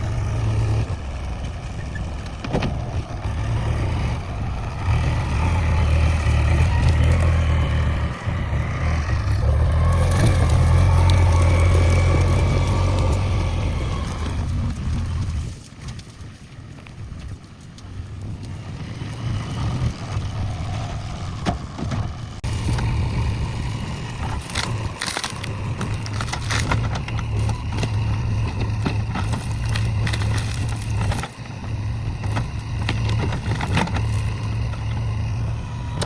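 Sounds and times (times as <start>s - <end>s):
diesel engine under load: 0.0s - 36.0s.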